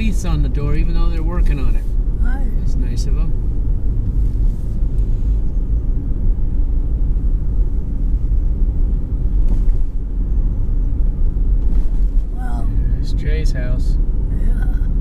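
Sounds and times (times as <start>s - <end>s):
road and tyre noise in car: 0.0s - 15.0s.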